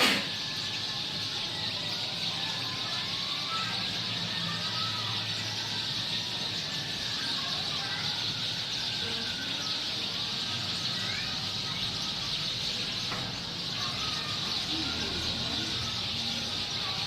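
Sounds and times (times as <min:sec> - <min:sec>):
flock of birds chattering: 0:00.0 - 0:17.0.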